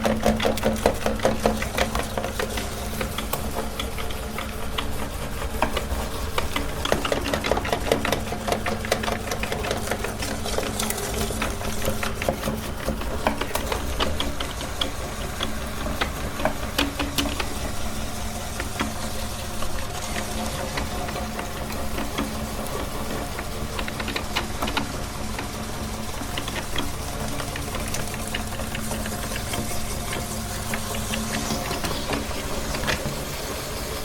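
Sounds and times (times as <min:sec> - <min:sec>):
meat grinder motor hum: 0:00.0 - 0:34.0.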